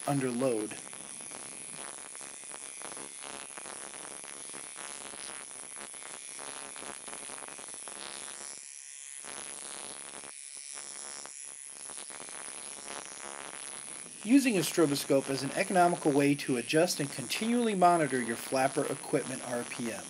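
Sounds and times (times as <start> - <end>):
rotary peening tool buzzing: 0.0 - 20.0.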